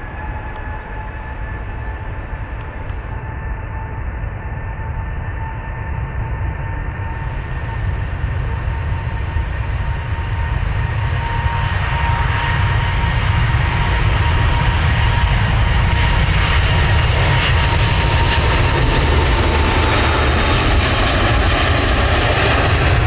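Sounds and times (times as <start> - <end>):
airliner engines roaring: 0.0 - 23.0.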